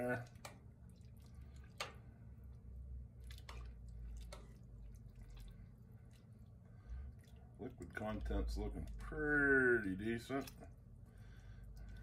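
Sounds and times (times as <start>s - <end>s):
stew squelching and sloshing: 0.0s - 12.0s.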